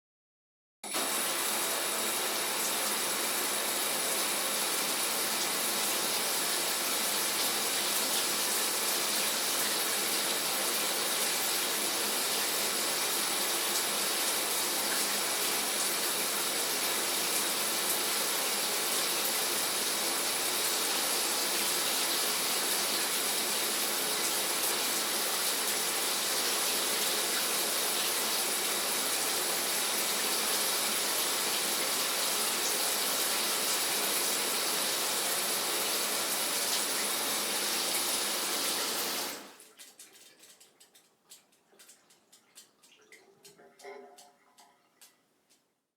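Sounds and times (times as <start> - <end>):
shower water spraying: 0.9 - 41.1.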